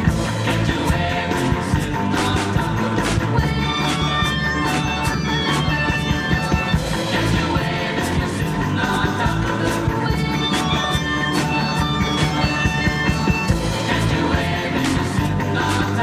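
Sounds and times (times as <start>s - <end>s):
steady drum beat: 0.0s - 16.0s
surf rock song: 0.0s - 16.0s.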